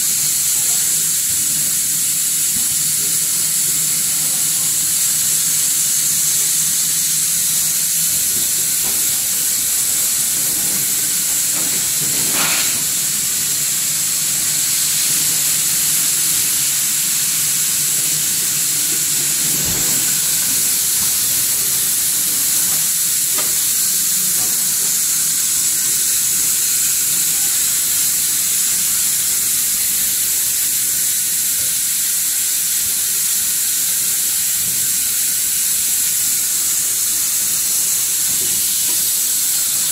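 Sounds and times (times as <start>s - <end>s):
machine air hiss: 0.0s - 39.9s.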